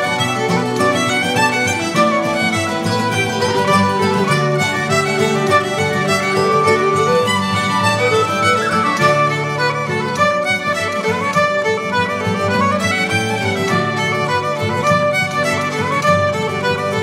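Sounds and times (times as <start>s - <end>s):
fiddle melody with accompaniment: 0.0s - 17.0s.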